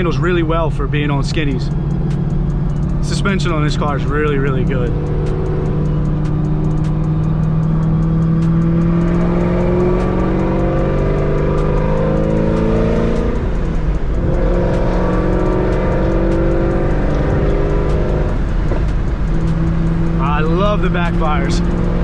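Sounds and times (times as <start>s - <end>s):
car engine accelerating through gears: 0.0s - 22.0s.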